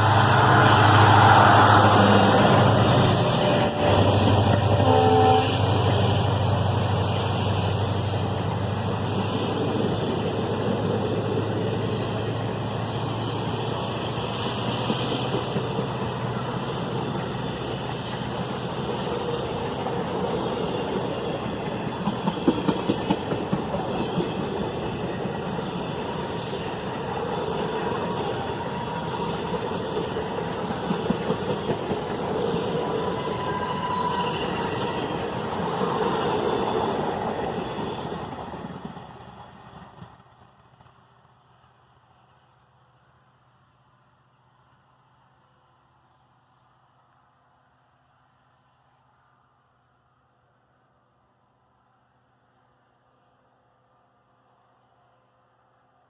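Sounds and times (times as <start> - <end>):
train rumbling: 0.0 - 49.6.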